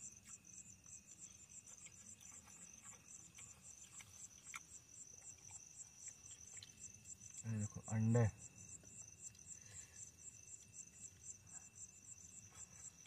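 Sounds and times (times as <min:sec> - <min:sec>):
crickets chirping: 0:00.0 - 0:13.0
high insect tone: 0:00.0 - 0:13.0.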